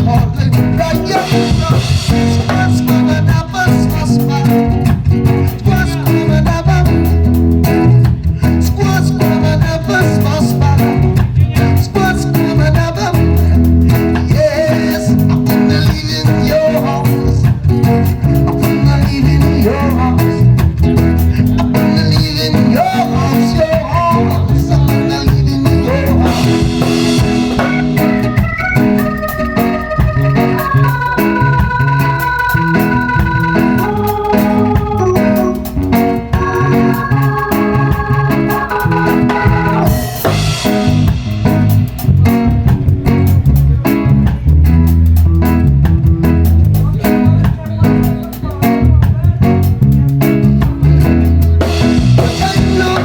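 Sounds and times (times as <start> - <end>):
band playing instrumental music: 0.0 - 53.0.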